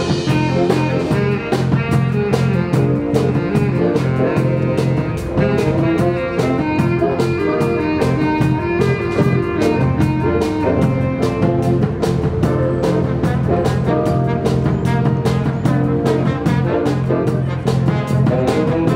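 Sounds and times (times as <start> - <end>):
drum kit beat: 0.0 - 18.9
electric bass: 0.0 - 18.9.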